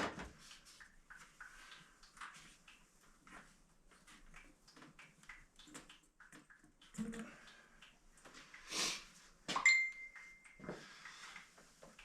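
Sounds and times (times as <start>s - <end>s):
faint clicks and taps of handwork: 0.0s - 12.0s.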